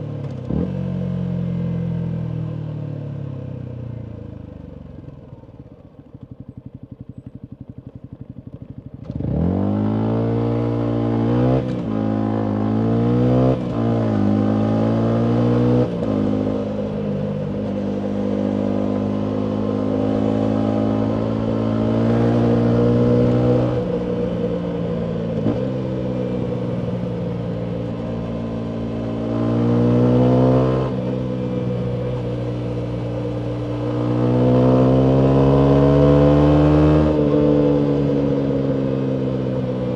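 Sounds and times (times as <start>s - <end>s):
motorcycle engine revving: 0.0s - 2.4s, 3.0s - 39.9s.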